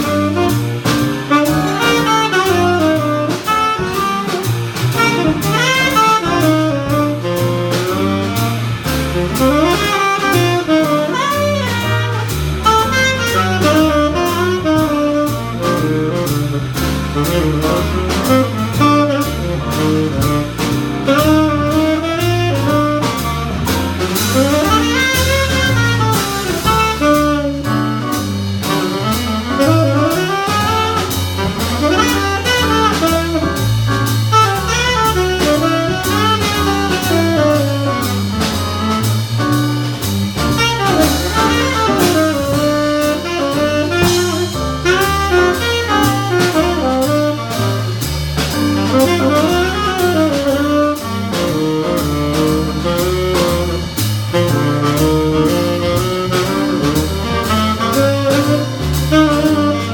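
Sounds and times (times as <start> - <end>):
double bass: 0.0 - 59.9
drum kit with cymbals: 0.0 - 59.9
piano: 0.0 - 59.9
tenor saxophone solo: 0.0 - 59.9.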